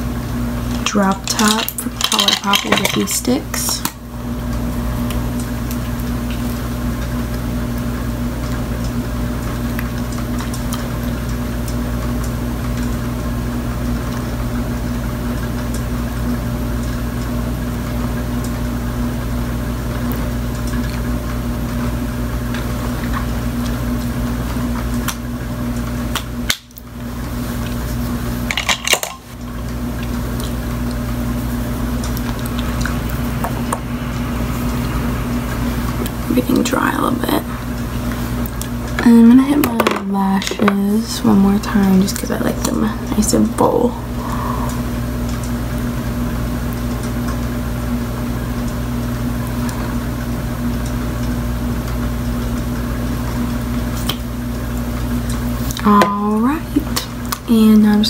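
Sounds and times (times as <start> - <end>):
machine hum and hiss: 0.0 - 58.0.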